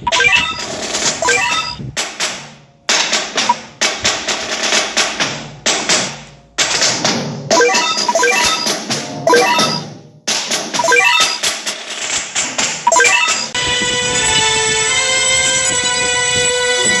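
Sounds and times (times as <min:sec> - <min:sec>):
percussion hits: 0:00.0 - 0:17.0.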